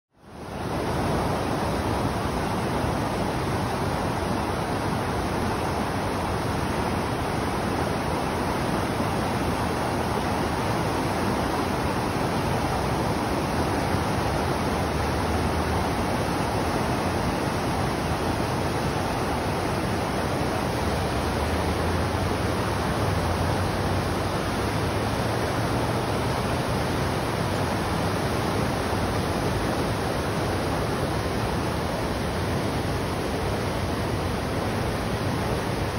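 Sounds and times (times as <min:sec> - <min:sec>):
loud rush of river water: 0:00.2 - 0:35.9.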